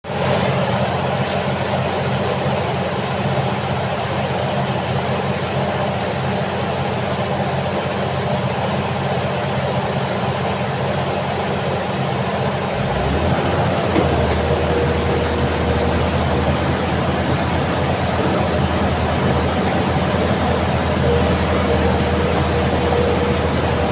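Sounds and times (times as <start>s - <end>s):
bulldozer diesel engine running: 0.0s - 23.9s.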